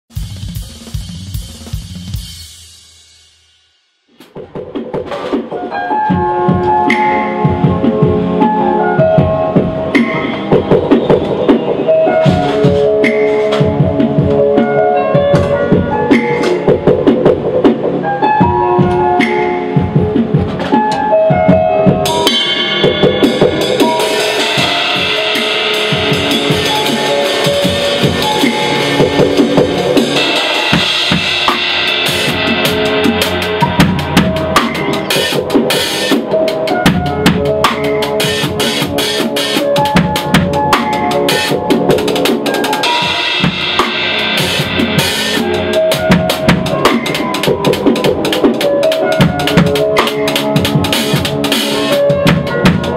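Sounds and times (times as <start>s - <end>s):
live band playing: 4.7s - 52.9s.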